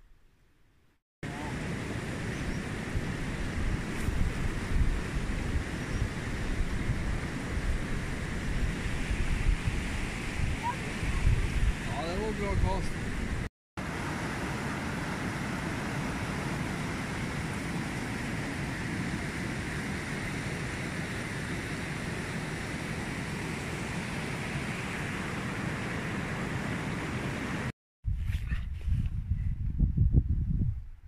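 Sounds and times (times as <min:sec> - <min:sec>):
flowing water rushing: 0:01.3 - 0:27.7.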